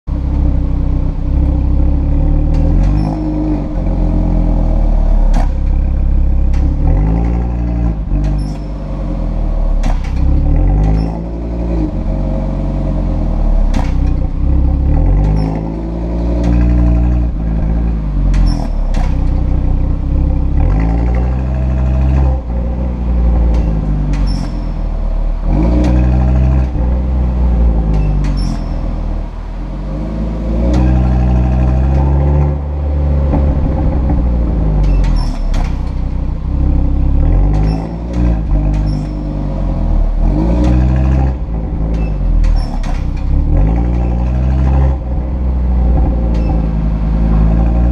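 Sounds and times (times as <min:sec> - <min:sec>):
car engine revving: 0:00.0 - 0:47.9
exhaust flaps squeaking: 0:00.1 - 0:47.9.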